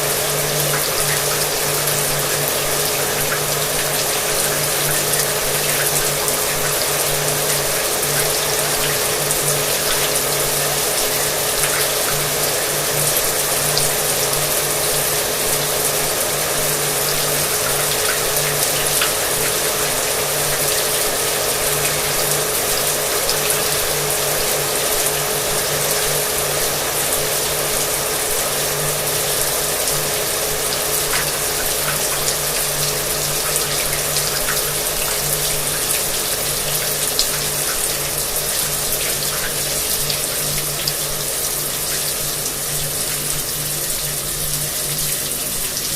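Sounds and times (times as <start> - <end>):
shower water running: 0.0 - 45.9.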